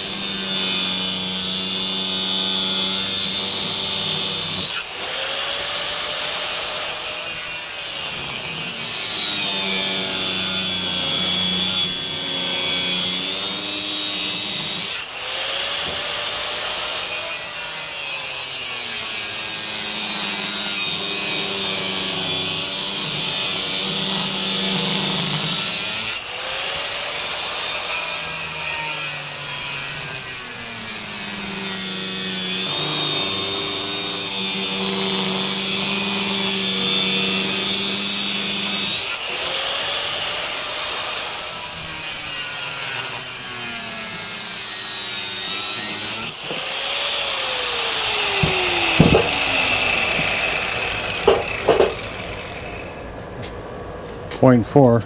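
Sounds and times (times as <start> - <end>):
power tool cutting metal housing: 0.0 - 53.2.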